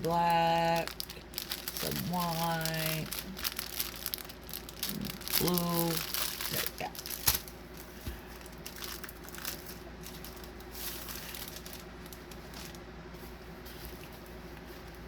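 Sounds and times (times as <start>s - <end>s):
faint steady hum: 0.0s - 15.0s
plastic packaging crinkling: 0.0s - 15.0s.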